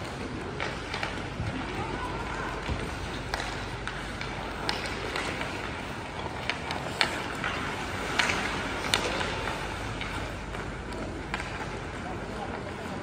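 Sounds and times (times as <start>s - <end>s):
rink background noise: 0.0s - 13.0s
skates scraping ice: 0.0s - 13.0s
sticks clacking on puck: 0.0s - 13.0s.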